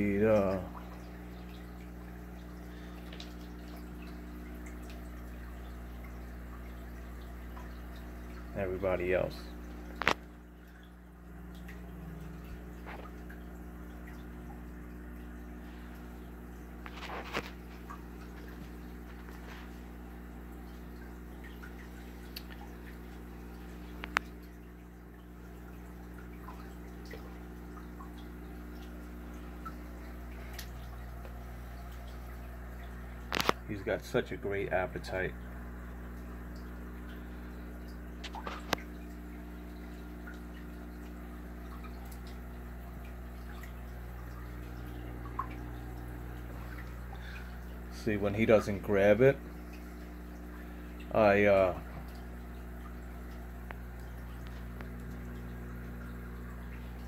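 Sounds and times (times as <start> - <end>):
steady low hum: 0.0 - 57.0
water dripping and trickling: 0.0 - 57.0.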